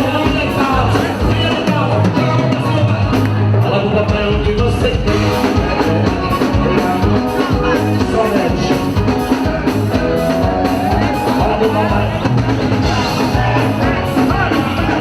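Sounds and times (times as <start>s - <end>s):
band music with steady beat: 0.0s - 15.0s
person singing: 0.0s - 15.0s.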